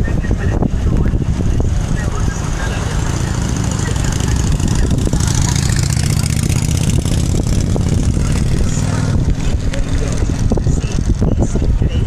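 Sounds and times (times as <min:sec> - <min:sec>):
motorcycle passing: 0:00.0 - 0:11.9
car engines in traffic: 0:00.0 - 0:12.0.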